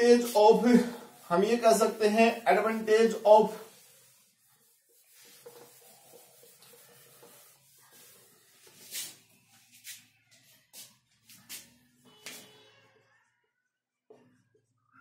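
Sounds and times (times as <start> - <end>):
whiteboard being wiped: 0.0 - 12.6.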